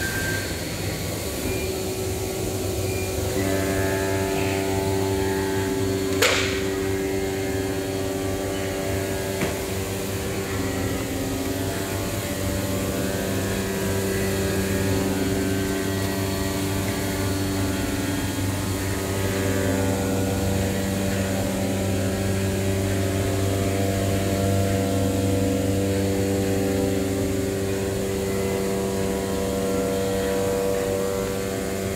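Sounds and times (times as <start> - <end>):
cutting machine humming drone: 0.0 - 31.9.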